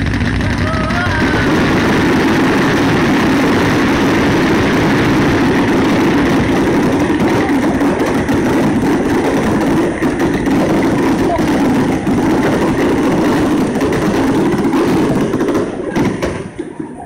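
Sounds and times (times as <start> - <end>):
fireworks barrage rumble: 0.0 - 17.0.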